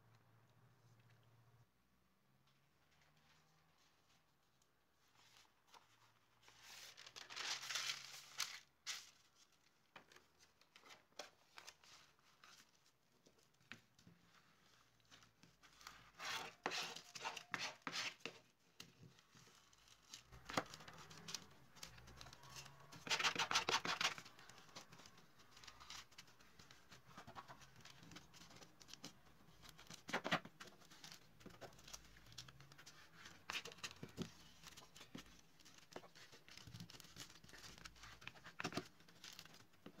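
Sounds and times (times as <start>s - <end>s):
paper rustling and rubbing: 5.0s - 40.0s.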